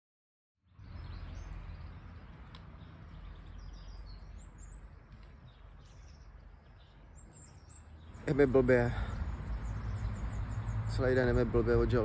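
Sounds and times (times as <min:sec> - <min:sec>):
birds chirping: 0:00.6 - 0:12.0.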